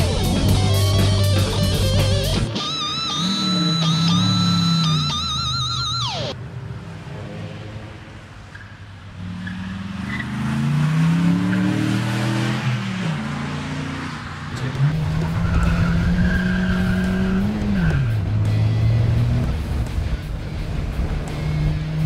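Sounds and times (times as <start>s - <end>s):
sports car engine revving: 0.0s - 6.3s, 9.2s - 22.0s.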